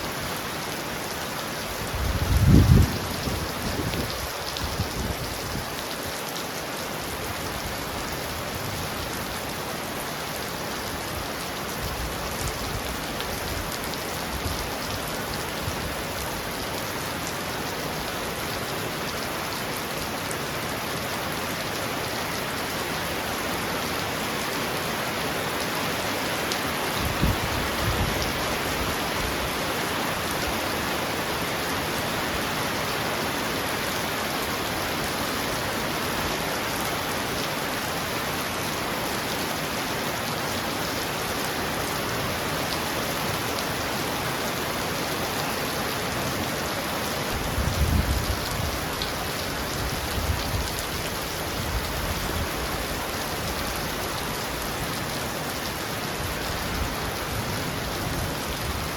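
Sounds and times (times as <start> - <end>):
heavy rain on a roof: 0.0 - 58.9.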